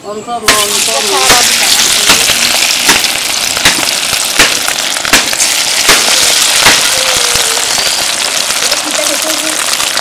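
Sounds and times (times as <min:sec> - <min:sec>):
fish deep-frying in oil: 0:00.5 - 0:10.0.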